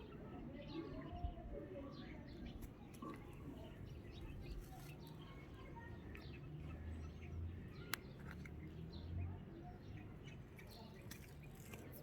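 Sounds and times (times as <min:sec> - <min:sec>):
birds chirping: 0:00.7 - 0:12.0.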